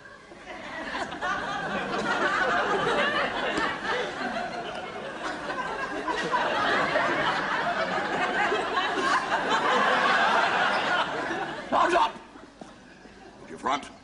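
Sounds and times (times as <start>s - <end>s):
audience laughing: 0.3s - 11.7s.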